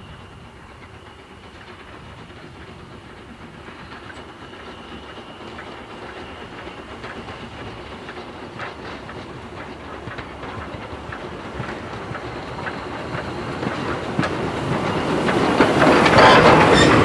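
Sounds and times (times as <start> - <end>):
steam hissing: 0.0 - 17.0
steam locomotive approaching: 0.0 - 17.0
wheels clicking over rail joints: 0.1 - 17.0.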